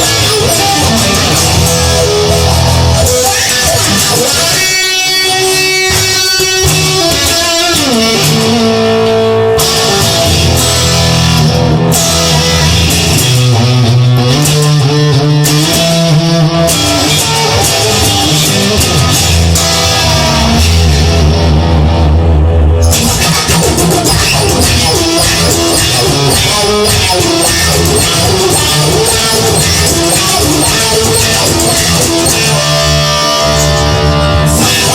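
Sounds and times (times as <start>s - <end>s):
electric guitar playing: 0.0s - 34.9s
steady bass line: 0.0s - 34.9s.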